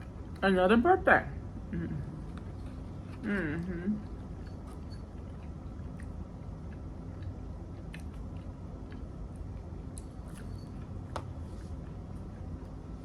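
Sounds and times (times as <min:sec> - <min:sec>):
person chewing food: 0:02.1 - 0:13.0.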